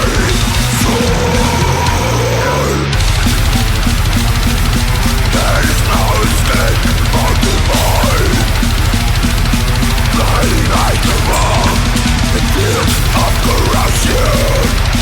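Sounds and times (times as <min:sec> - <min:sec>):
death metal band playing: 0:00.0 - 0:15.0
high sliding guitar pitches: 0:00.0 - 0:15.0.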